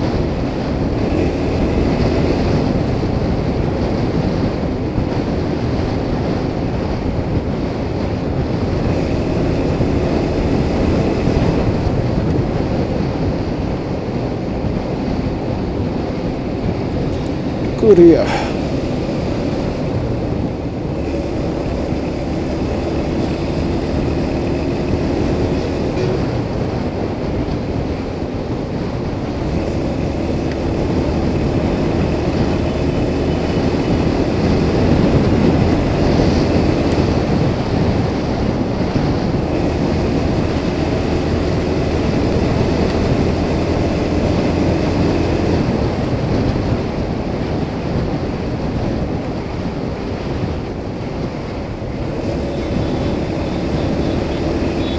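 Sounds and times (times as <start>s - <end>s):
motorcycle engine running: 0.0s - 54.9s
wind rushing over microphone: 0.0s - 54.9s.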